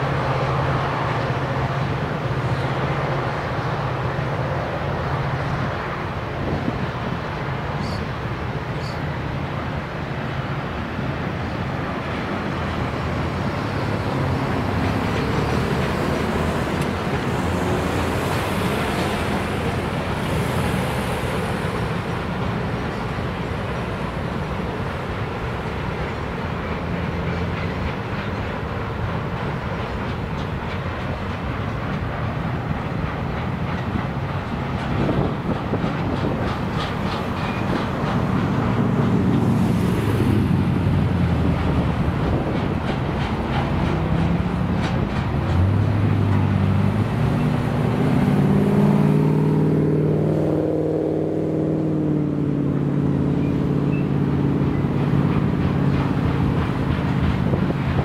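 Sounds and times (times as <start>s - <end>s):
wheels clicking over rail joints: 0.0s - 49.0s, 51.8s - 58.0s
freight train wagons rumbling past: 0.0s - 58.0s.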